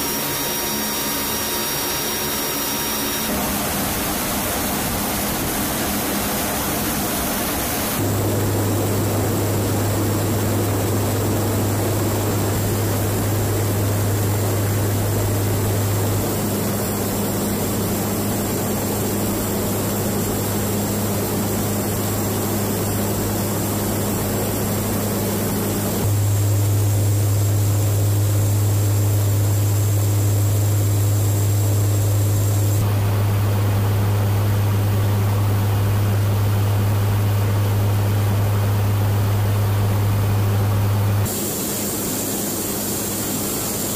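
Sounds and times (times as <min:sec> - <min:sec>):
turboprop engines droning: 0:00.0 - 0:43.9.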